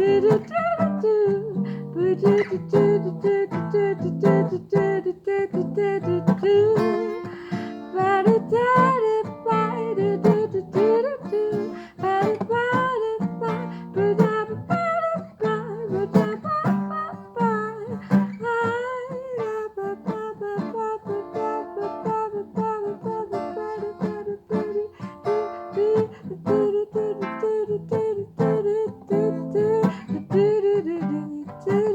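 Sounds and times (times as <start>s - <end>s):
acoustic guitar picking: 0.0s - 31.9s
person singing wordlessly: 0.0s - 31.9s.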